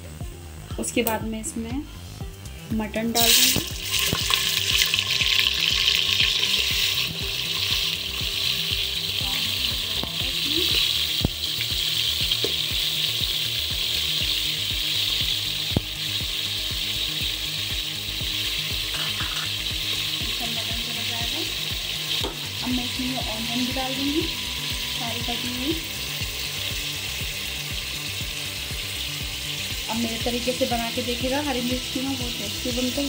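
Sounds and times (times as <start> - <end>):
meat sizzling in hot oil: 3.1 - 33.0.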